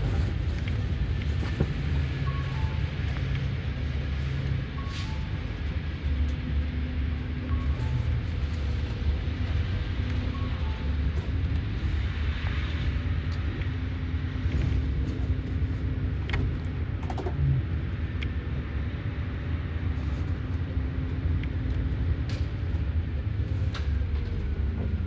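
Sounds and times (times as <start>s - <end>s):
engine and road rumble: 0.0s - 25.0s.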